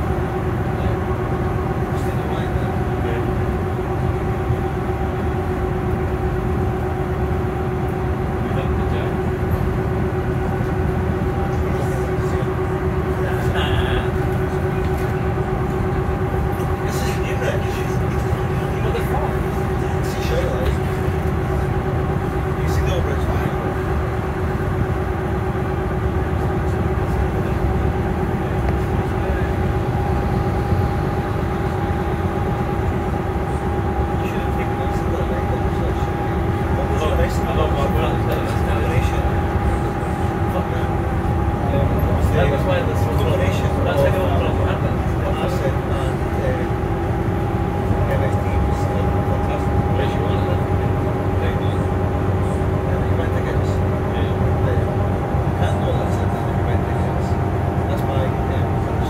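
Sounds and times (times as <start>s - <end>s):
low road rumble: 0.0s - 59.0s.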